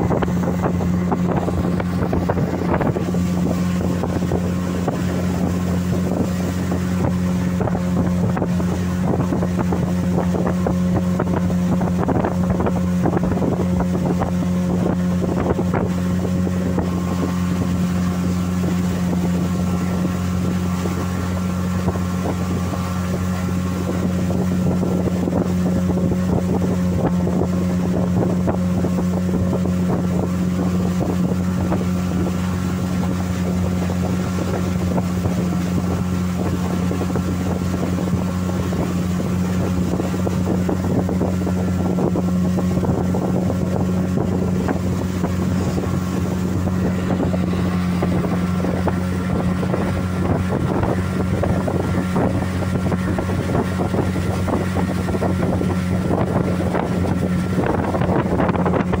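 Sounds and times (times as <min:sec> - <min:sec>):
outboard motor droning: 0:00.0 - 0:59.0
water rushing past hull: 0:00.0 - 0:59.0
wind buffeting microphone: 0:00.0 - 0:59.0.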